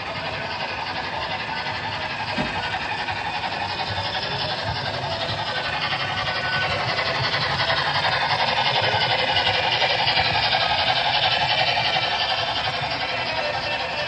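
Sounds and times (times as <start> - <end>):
model train motor whirring: 0.0 - 14.0
train wheels clattering on track: 0.0 - 14.0.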